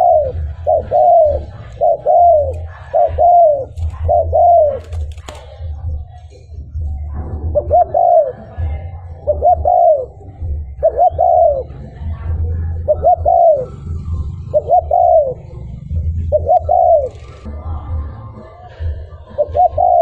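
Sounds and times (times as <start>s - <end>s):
dove cooing: 0.0s - 6.1s, 6.9s - 17.5s, 19.0s - 20.0s.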